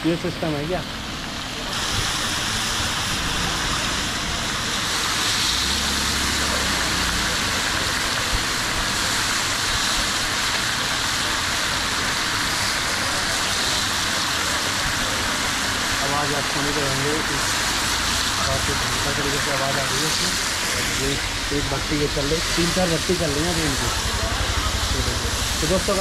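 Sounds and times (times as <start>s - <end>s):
batter sizzling in hot fat: 0.0s - 26.0s.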